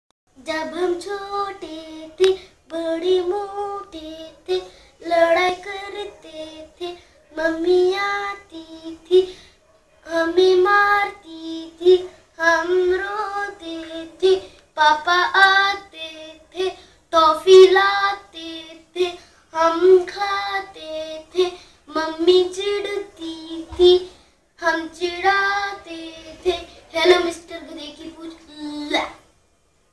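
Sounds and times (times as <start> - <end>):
boy singing nursery rhyme: 0.3 - 9.4, 10.0 - 29.3.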